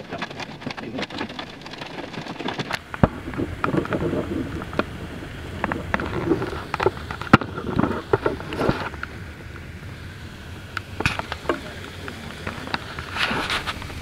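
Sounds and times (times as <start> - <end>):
low steady rumble: 0.0 - 14.0
rain ticking on car: 0.0 - 14.0.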